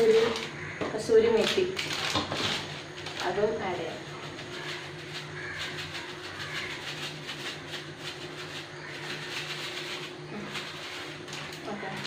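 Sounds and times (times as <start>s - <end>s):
steady low hum: 0.0s - 12.0s
plastic packet crinkling: 1.3s - 12.0s.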